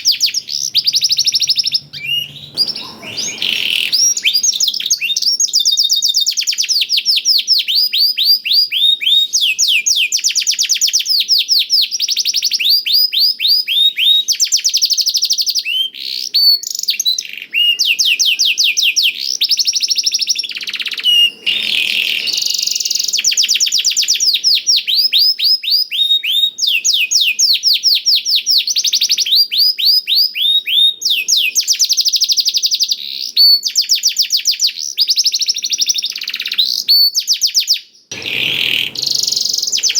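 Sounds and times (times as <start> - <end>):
canary singing trills: 0.0 - 10.9, 15.6 - 39.9.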